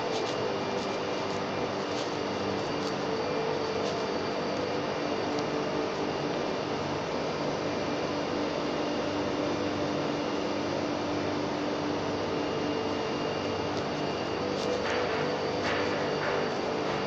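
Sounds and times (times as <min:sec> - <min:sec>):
industrial machinery drone: 0:00.0 - 0:17.0.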